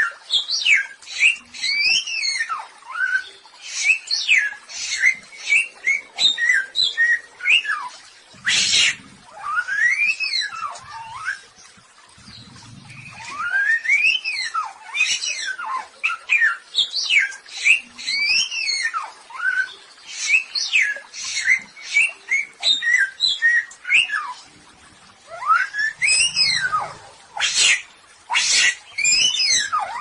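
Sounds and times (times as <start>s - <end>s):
songbird whistled song: 0.3s - 11.5s, 12.3s - 24.4s, 25.3s - 30.0s.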